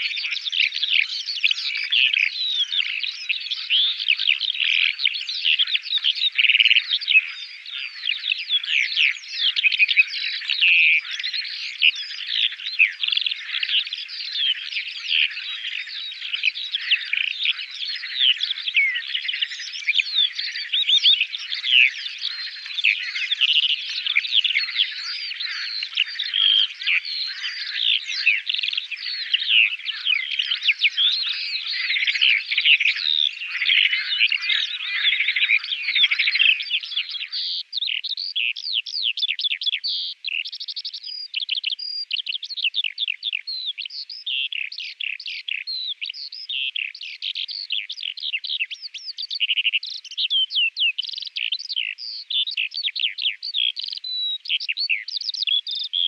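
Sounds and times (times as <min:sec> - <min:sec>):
skylark singing: 0:00.0 - 0:56.0.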